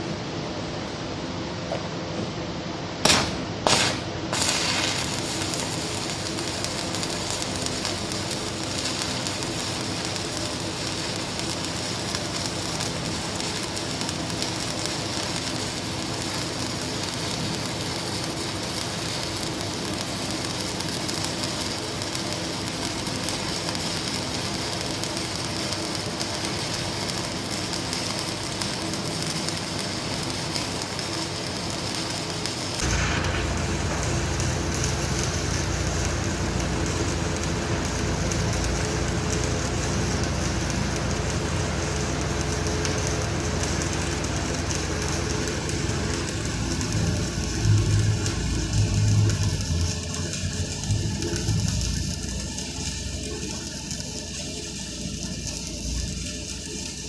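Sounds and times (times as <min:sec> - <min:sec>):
faint machine hum: 0:00.0 - 0:57.0
welding arc bursts and crackle: 0:03.0 - 0:57.0.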